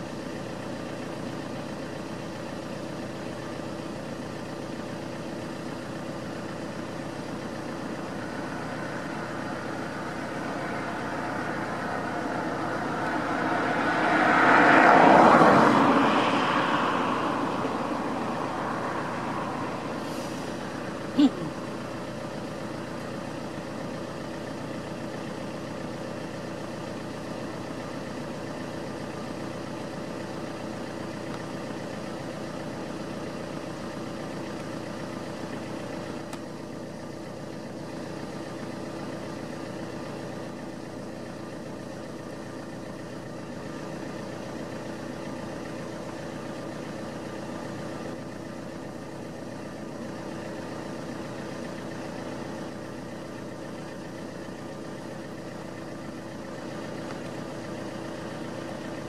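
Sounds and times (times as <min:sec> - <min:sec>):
engine idling hum: 0:00.0 - 0:59.0.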